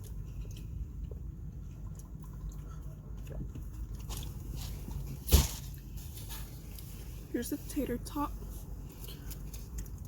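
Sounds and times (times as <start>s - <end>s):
person chewing food: 0.0s - 7.2s, 8.6s - 10.0s
steady low hum: 0.0s - 10.0s.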